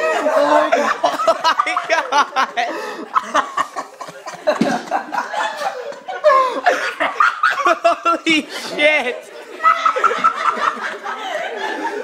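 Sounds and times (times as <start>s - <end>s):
young people laughing: 0.0s - 12.0s.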